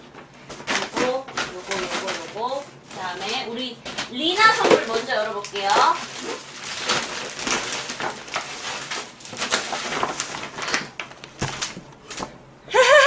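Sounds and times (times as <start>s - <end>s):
wrapping paper rustling and crinkling: 0.0s - 12.4s.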